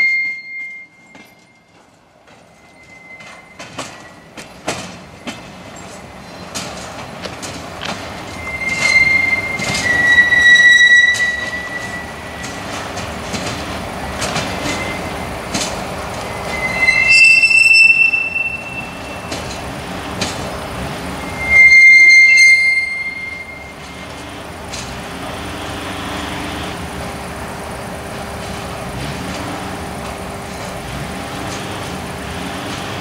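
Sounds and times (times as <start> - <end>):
train wheels squealing: 0.0 - 27.0
train rolling rumble: 0.0 - 33.0
wagons knocking and clanking: 0.0 - 33.0.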